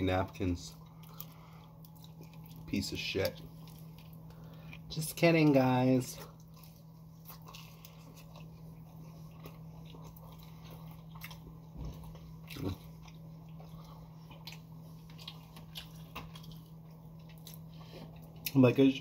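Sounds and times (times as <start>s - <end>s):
low hum: 0.0s - 19.0s
person chewing food: 0.1s - 18.8s.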